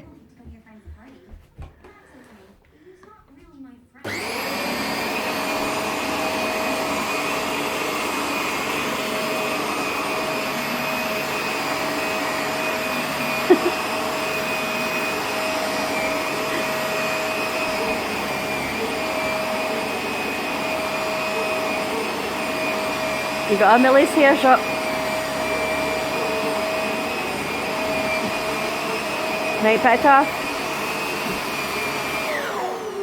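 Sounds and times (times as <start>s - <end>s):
vacuum cleaner running: 4.0s - 33.0s.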